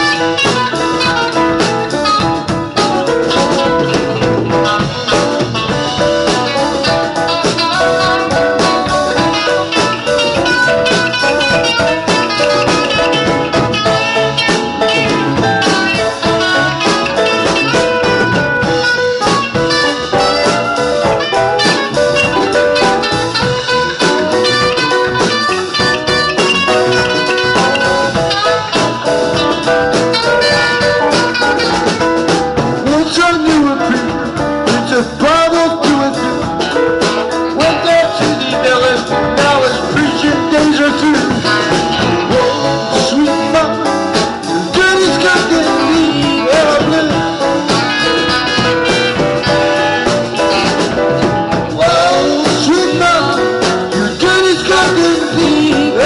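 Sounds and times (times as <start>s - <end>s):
live blues band playing: 0.0s - 56.0s
person singing: 0.0s - 56.0s.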